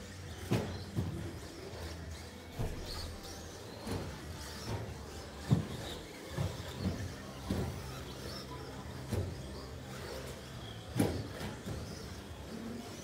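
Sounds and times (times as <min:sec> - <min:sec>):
steady low hum: 0:00.0 - 0:13.0
toy trucks thumping boards: 0:00.3 - 0:13.0.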